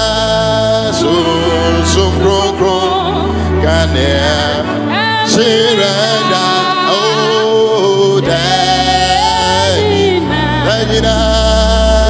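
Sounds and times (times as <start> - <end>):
instrumental backing with bass: 0.0 - 12.0
man singing gospel: 0.0 - 12.0
woman singing gospel: 0.7 - 12.0.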